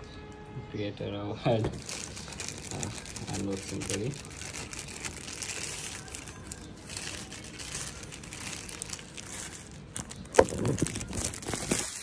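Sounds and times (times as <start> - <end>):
plastic wrapping crinkling: 1.5 - 12.0.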